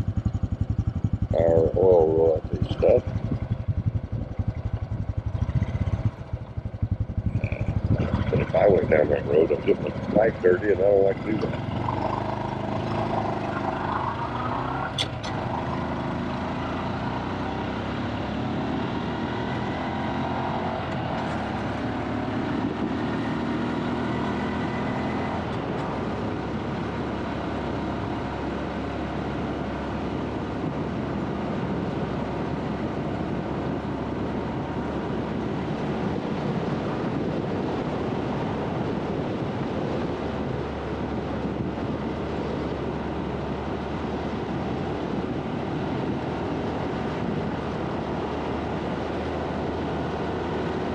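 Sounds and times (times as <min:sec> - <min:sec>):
motorcycle engine cruising: 0:00.0 - 0:50.9
wind and road noise: 0:00.0 - 0:50.9.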